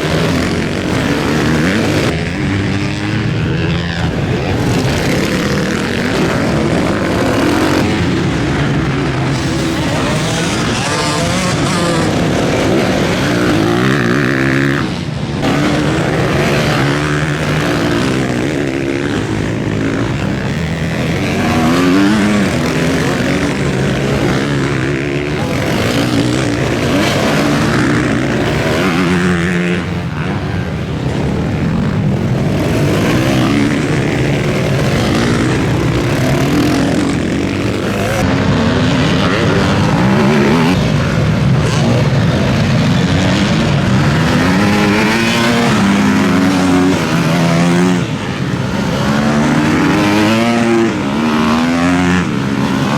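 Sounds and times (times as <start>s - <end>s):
motocross bike engines racing: 0.0s - 52.9s.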